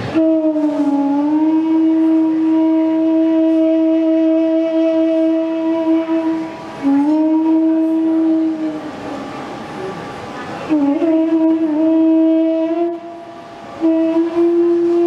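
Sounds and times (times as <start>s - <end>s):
bamboo flute long note: 0.0s - 15.0s.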